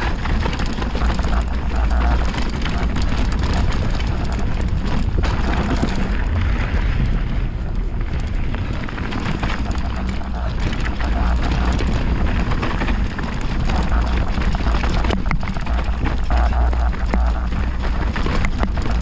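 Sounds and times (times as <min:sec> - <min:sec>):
bike clattering: 0:00.0 - 0:19.0
tyres crunching over stones: 0:00.0 - 0:19.0
wind rumble on microphone: 0:00.0 - 0:19.0.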